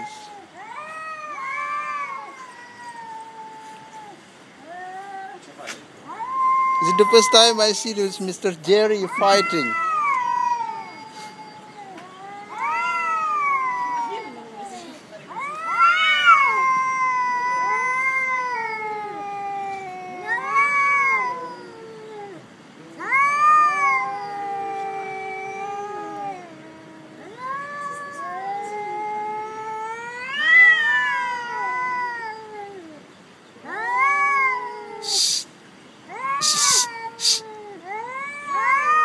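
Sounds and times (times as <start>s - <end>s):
cats yowling: 0.0s - 35.5s, 36.1s - 39.0s.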